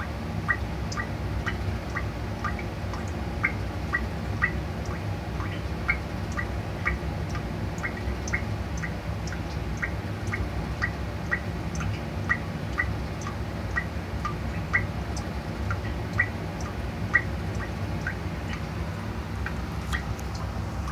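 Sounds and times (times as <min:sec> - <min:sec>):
low background hum: 0:00.0 - 0:20.9
water drops plinking on floor: 0:00.5 - 0:18.7.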